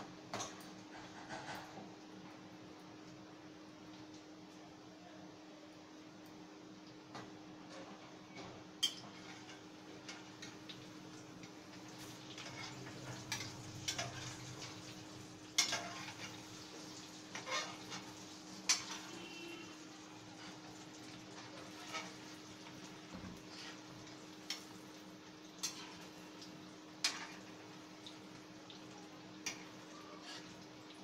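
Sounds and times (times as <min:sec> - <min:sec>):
oil sizzling: 0:05.9 - 0:31.0.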